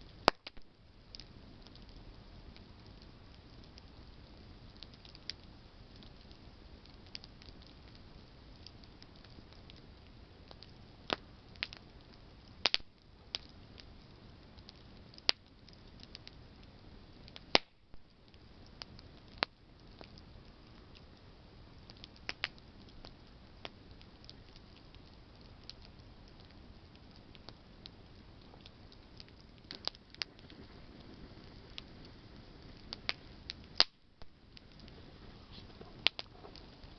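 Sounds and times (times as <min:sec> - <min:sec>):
campfire crackling and popping: 0:00.0 - 0:36.9
faint steady hiss: 0:00.0 - 0:36.9.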